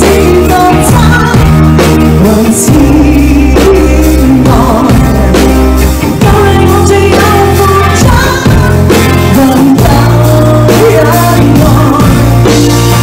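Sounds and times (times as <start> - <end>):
pop music: 0.0 - 13.0.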